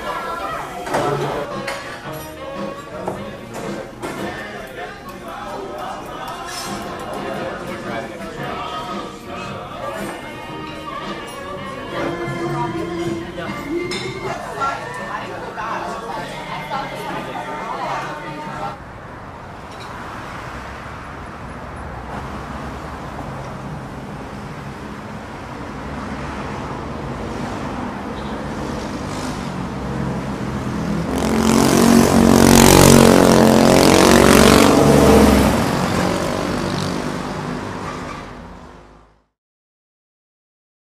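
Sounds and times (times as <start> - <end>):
vehicle engine passing: 0.0 - 39.3
street traffic: 0.0 - 39.4.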